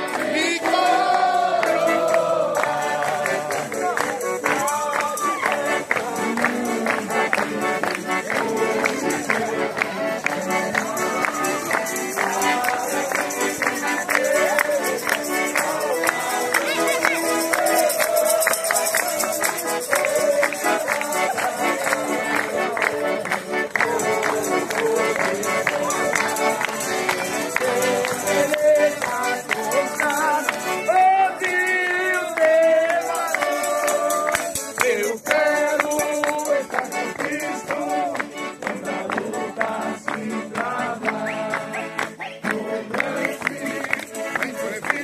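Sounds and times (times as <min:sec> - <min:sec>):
accordion chords: 0:00.0 - 0:45.0.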